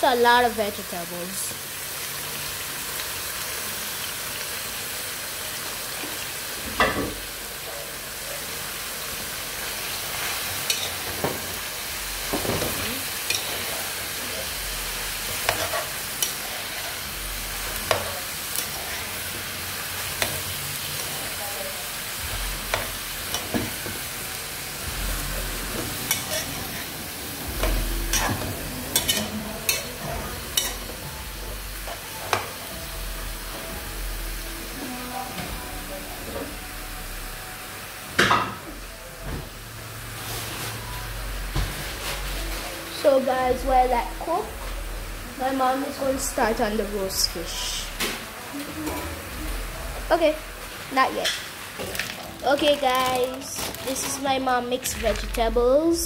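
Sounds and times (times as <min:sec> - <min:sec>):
vegetables sizzling in a pot: 0:00.0 - 0:56.0.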